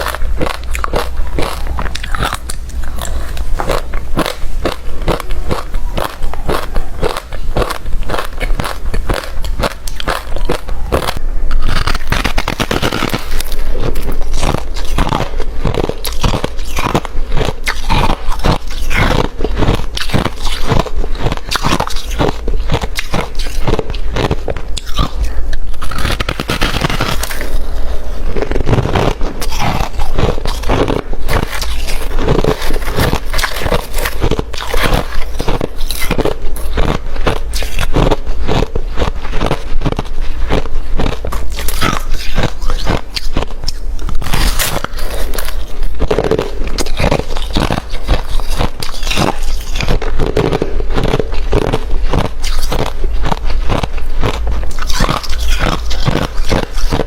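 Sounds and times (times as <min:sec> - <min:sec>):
person chewing crushed ice: 0:00.0 - 0:57.0.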